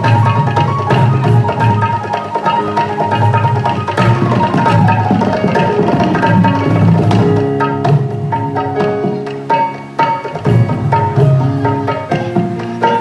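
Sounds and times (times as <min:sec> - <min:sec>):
fast hand drumming: 0:00.0 - 0:13.0
music with held melodic notes: 0:00.0 - 0:13.0.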